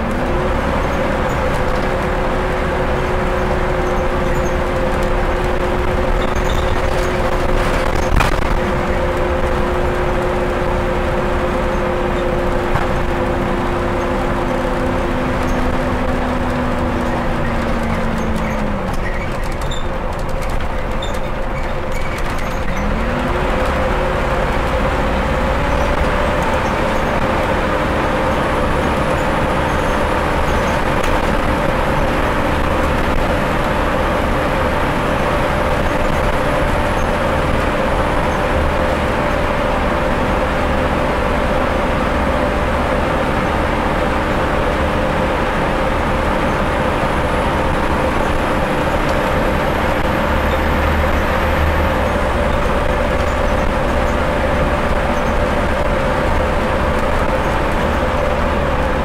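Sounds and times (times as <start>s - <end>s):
bus diesel engine working hard: 0.0s - 59.0s
low road rumble: 0.0s - 59.0s.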